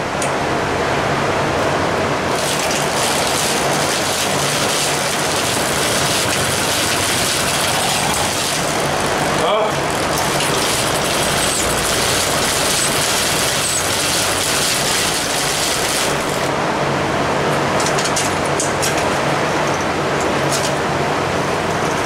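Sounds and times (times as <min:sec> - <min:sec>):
shop fan rushing: 0:00.0 - 0:22.0.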